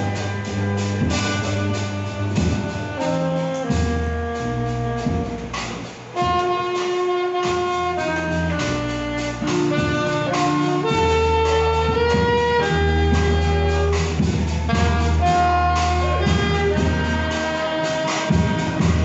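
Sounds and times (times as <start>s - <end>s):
deep bass note: 0.0s - 19.0s
saxophones and violins melody: 0.0s - 19.0s.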